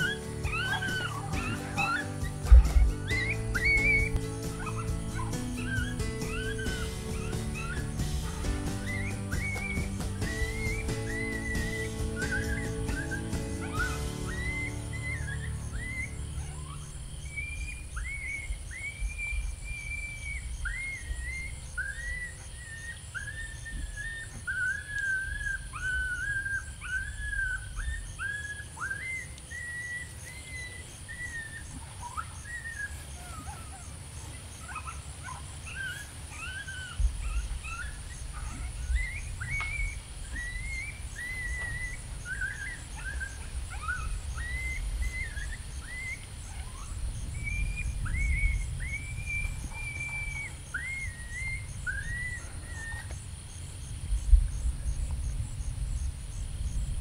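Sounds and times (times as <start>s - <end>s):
low wind rumble: 0.0s - 28.4s, 35.1s - 57.0s
coyote yelps and whines: 0.0s - 54.9s.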